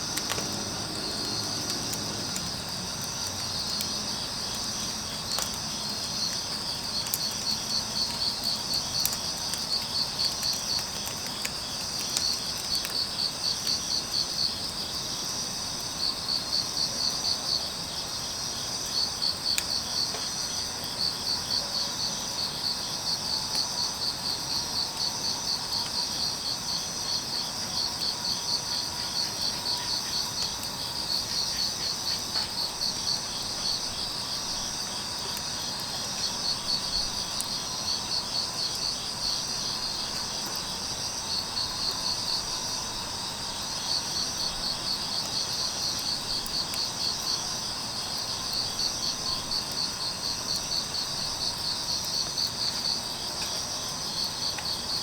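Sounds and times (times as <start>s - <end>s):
crickets chirping in pulsed trills: 0.0s - 55.0s.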